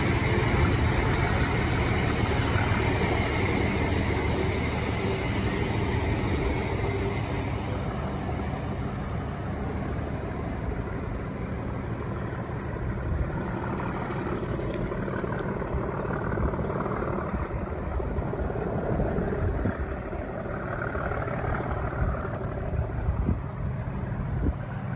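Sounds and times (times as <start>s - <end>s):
diesel locomotive drone: 0.0s - 24.9s
train rumbling along rails: 0.0s - 24.9s.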